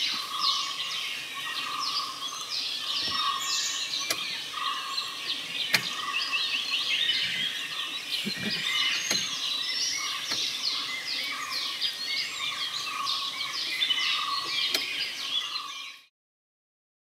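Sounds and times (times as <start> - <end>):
birds chirping: 0.0 - 16.1
low steady bird call: 0.0 - 16.1.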